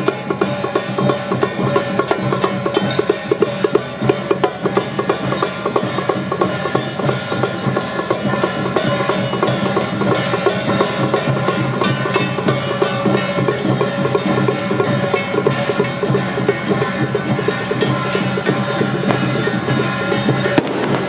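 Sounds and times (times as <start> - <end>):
fast dense percussion: 0.0 - 21.0
sustained instrumental tones: 0.2 - 21.0.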